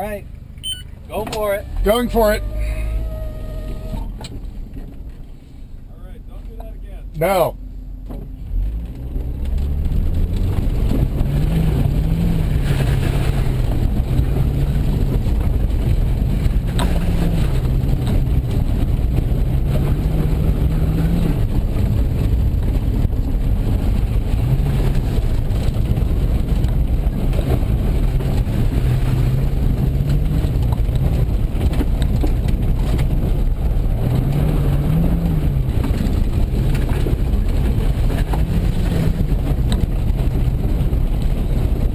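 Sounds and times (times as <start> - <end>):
car engine revving: 0.0 - 41.9
road and gravel noise: 0.0 - 41.9.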